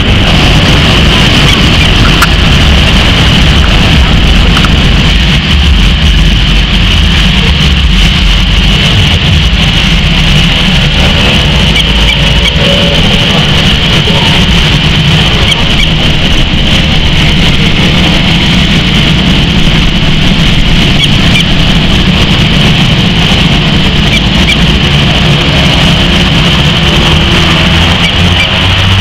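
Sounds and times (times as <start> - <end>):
high turbine whine: 0.0 - 29.0
propeller drone: 0.0 - 29.0.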